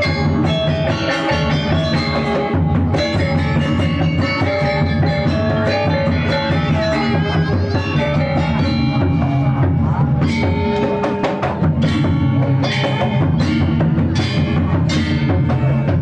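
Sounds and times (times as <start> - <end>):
drums and percussion: 0.0 - 16.0
sustained pitched instruments: 0.0 - 16.0.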